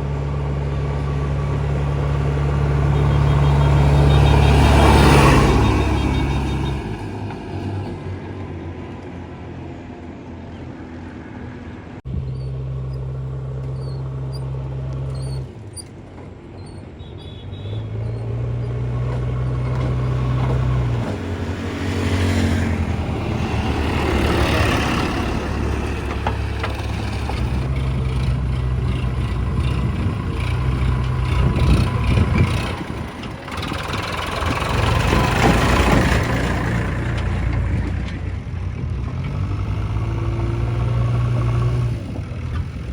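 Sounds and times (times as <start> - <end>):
backhoe loader diesel engine: 0.0 - 42.9
tractor engine: 0.0 - 42.9.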